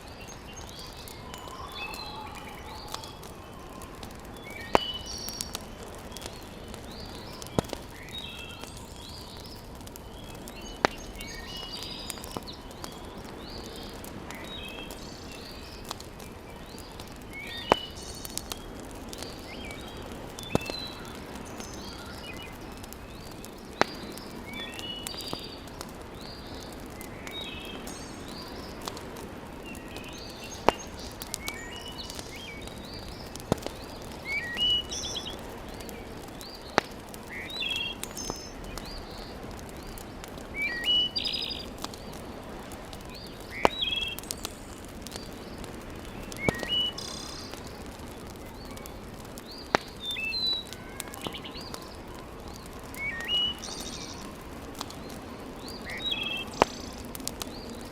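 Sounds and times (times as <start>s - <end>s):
birds chirping: 0.0s - 57.9s
wood fire crackling: 0.0s - 57.9s.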